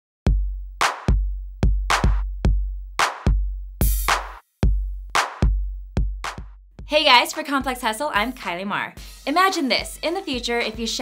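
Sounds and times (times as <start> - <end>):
electronic drum-machine beat: 0.3 - 11.0.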